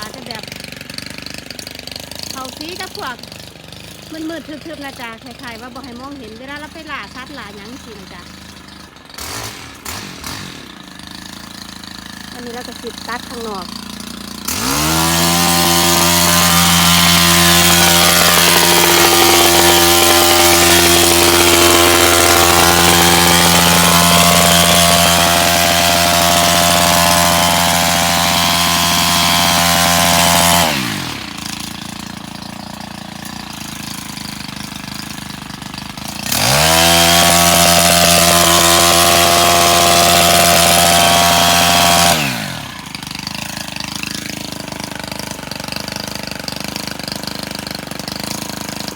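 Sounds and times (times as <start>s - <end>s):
power cutting tool motor whining: 0.0s - 48.9s.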